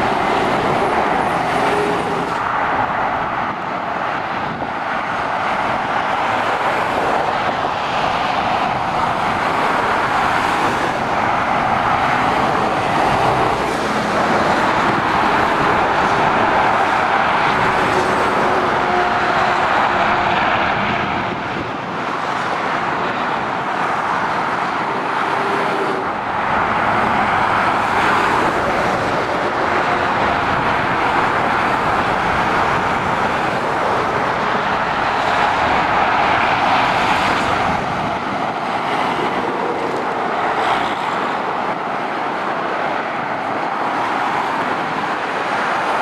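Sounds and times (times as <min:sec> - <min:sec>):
motorway traffic passing: 0:00.0 - 0:46.0.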